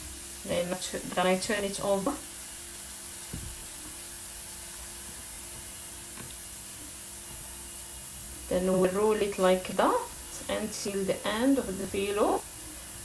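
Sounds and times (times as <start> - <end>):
faint constant hum: 0.0 - 13.0
low hiss: 0.0 - 13.0.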